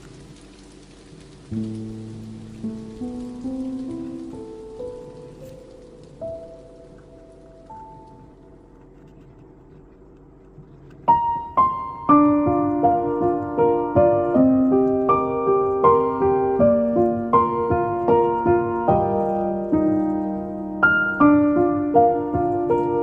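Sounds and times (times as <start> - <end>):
soft piano music: 0.0 - 23.0.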